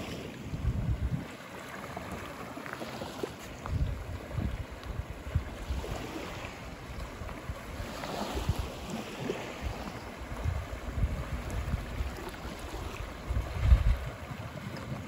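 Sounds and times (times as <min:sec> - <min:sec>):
wind gusting on microphone: 0:00.0 - 0:01.4, 0:03.5 - 0:15.0
surf washing onto beach: 0:00.0 - 0:15.0.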